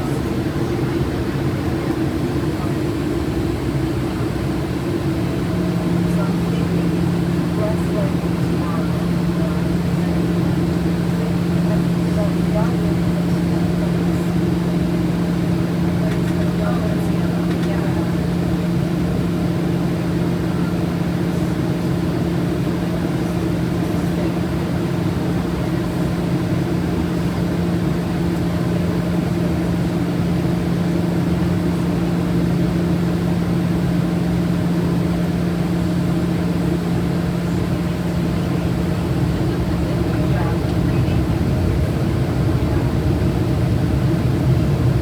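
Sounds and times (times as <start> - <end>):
aircraft engine drone: 0.0 - 45.0.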